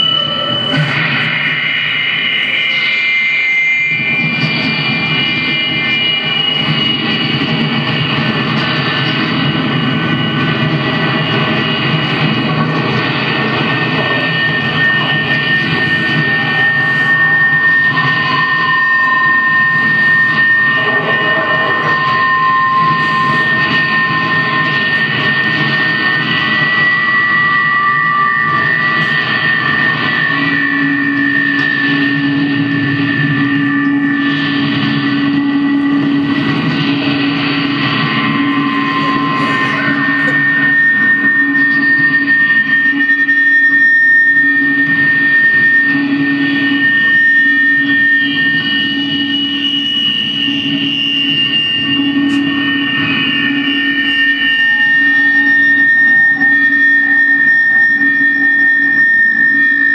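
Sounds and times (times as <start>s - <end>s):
electronic drone music: 0.0s - 59.9s.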